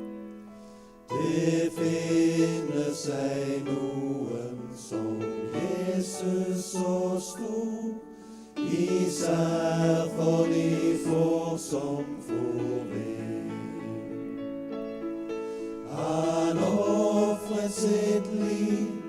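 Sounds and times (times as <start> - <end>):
male group singing a hymn: 1.1 - 14.3, 15.8 - 19.0.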